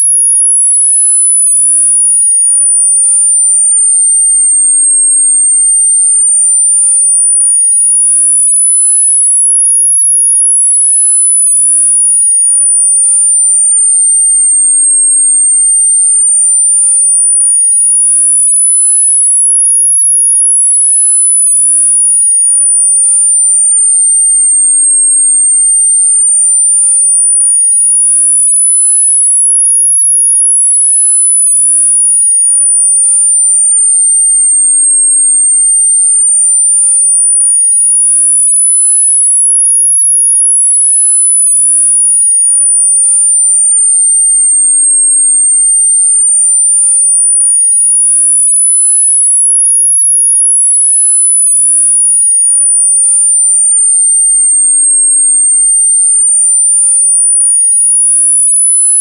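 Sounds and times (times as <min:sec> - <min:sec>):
high-pitched sine tone sweeping: 0:00.0 - 0:59.0.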